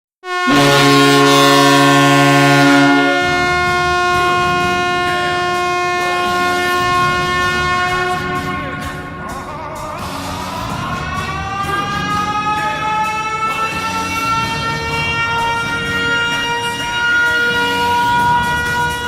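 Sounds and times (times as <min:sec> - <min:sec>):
air horn blast: 0:00.2 - 0:09.4, 0:10.0 - 0:19.0
crowd noise: 0:02.7 - 0:19.0.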